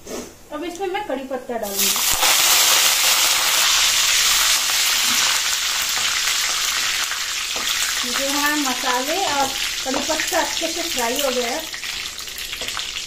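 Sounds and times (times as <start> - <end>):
leaves sizzling in hot oil: 1.6 - 13.0.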